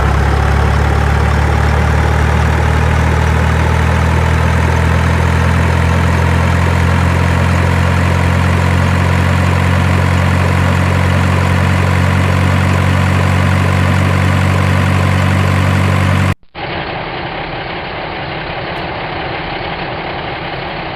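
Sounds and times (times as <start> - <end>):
dull engine sound: 0.0 - 20.9
truck engine idling: 0.0 - 20.9.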